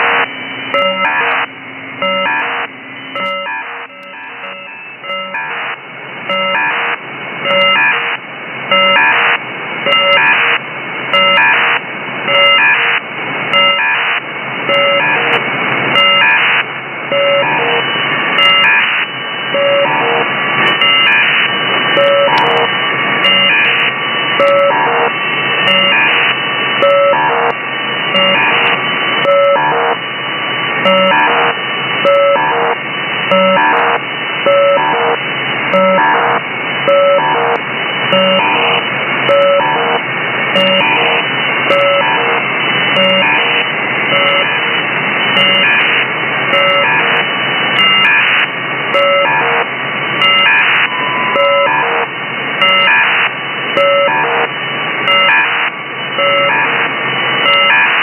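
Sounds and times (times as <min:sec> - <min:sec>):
buzzing radio tones: 0:00.0 - 0:58.0.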